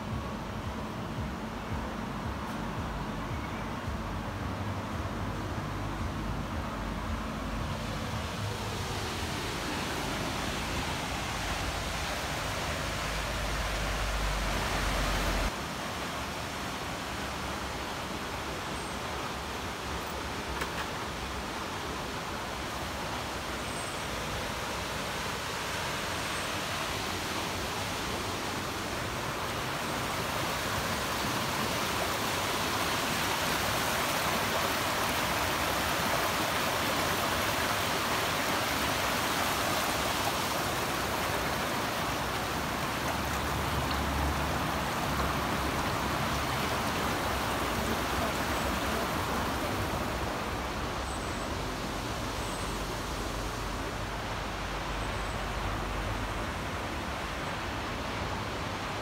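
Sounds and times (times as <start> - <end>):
river rushing over stones: 0.0 - 59.0.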